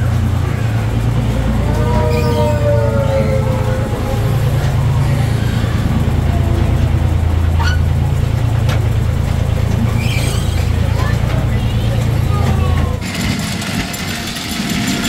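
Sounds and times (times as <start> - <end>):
ride vehicle rumbling: 0.0 - 15.0.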